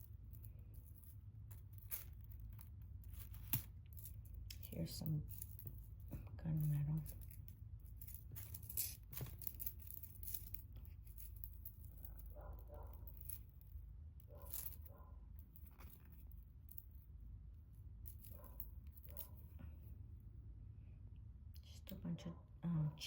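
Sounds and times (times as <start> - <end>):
jewelry chains clicking: 0.0 - 17.1, 18.0 - 19.6.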